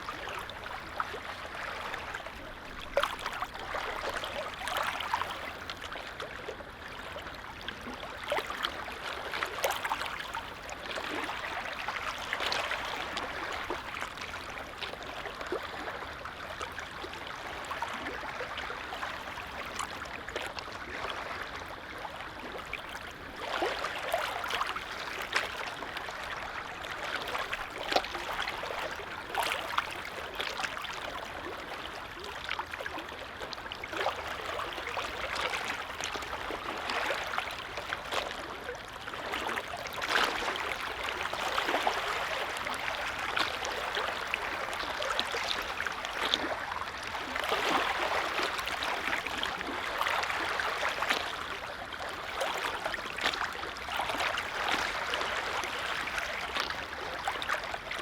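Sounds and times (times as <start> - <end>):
lake waves lapping: 0.0 - 58.0.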